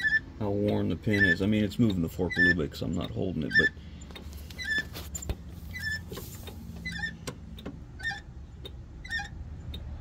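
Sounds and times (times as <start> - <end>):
clutch linkage squeaking: 0.0 - 10.0.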